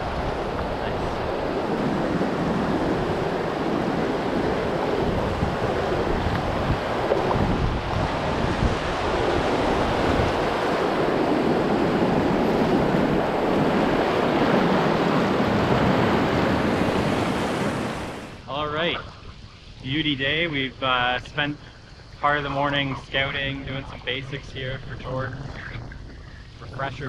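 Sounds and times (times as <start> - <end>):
rapids rushing and splashing: 0.0 - 27.0.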